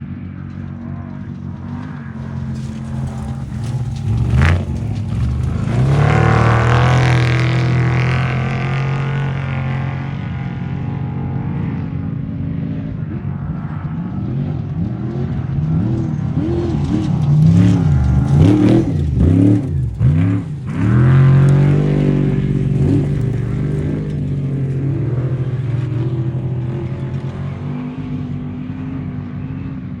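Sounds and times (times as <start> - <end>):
truck engine revving: 1.6 - 12.3, 13.9 - 28.5.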